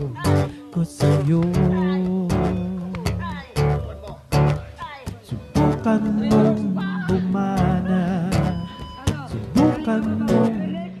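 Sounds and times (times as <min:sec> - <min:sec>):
song with strummed guitar: 0:00.0 - 0:11.0.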